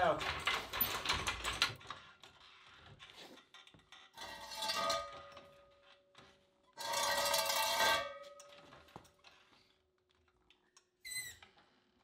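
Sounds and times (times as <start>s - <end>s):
metal stands scraping and clanking: 0.0s - 9.8s.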